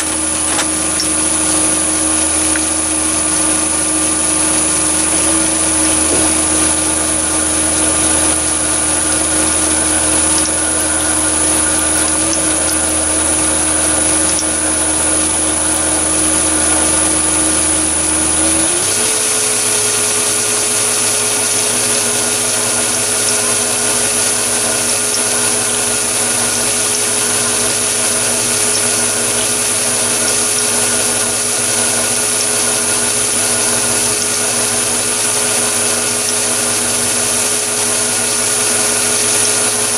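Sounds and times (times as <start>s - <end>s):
metal lathe whining: 0.0s - 39.9s.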